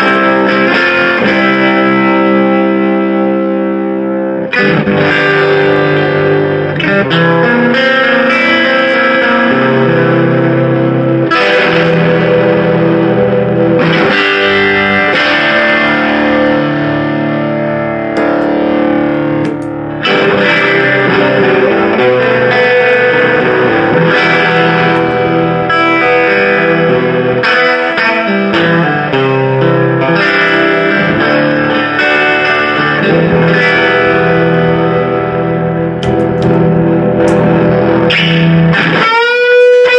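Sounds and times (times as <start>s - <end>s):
overdriven electric guitar strumming: 0.0s - 39.9s.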